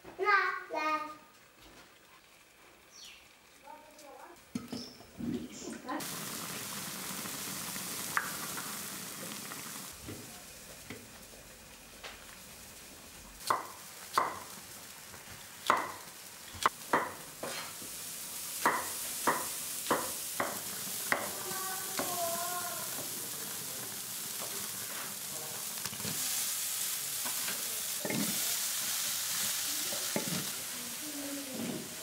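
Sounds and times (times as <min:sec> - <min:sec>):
simmering hiss from wok: 0:01.0 - 0:32.0.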